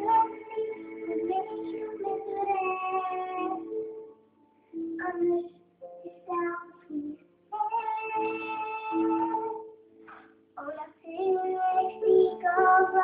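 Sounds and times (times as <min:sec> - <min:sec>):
girl singing: 0:00.0 - 0:04.0, 0:04.7 - 0:09.8, 0:10.6 - 0:13.0.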